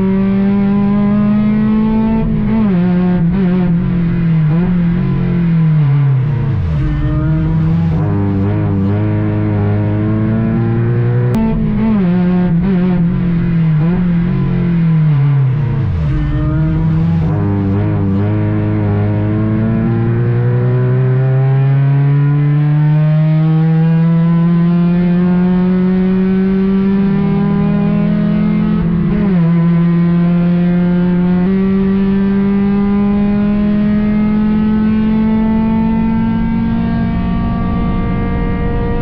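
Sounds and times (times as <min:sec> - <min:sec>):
race car engine accelerating: 0:00.0 - 0:39.0.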